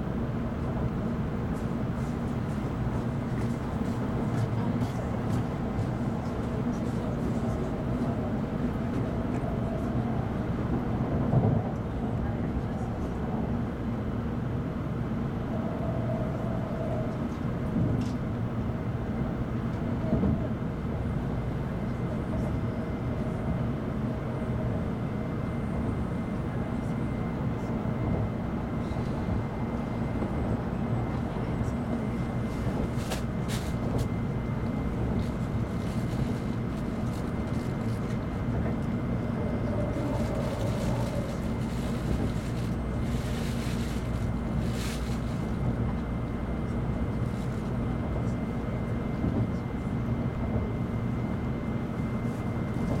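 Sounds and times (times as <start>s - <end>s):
train wheels rumbling on rails: 0.0s - 13.6s, 15.8s - 53.0s.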